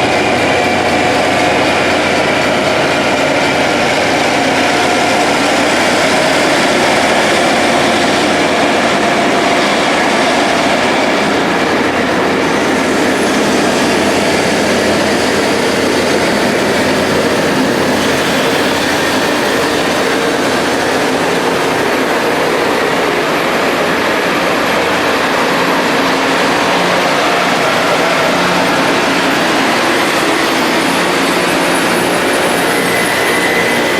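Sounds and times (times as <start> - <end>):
rail grinding machine grinding: 0.0 - 33.9.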